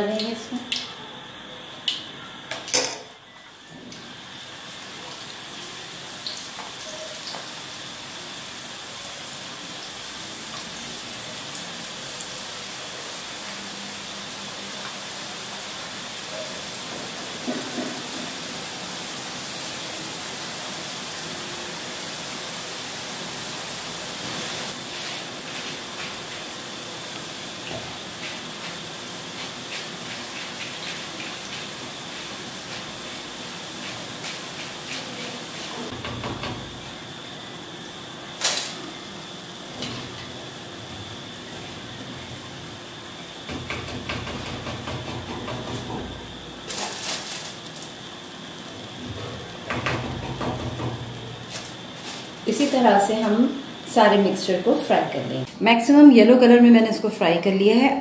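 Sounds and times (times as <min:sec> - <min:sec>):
batter sizzling in hot oil: 0:01.6 - 0:54.5.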